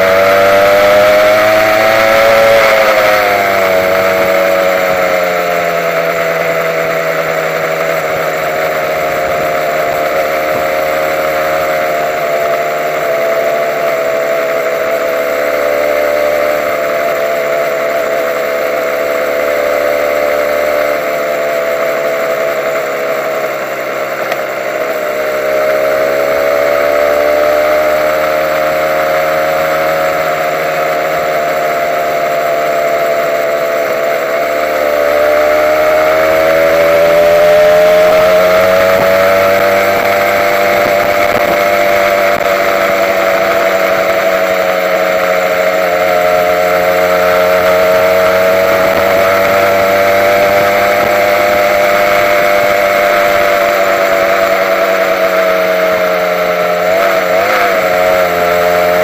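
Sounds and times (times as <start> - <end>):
two-stroke motorcycle engine running: 0.0 - 59.0.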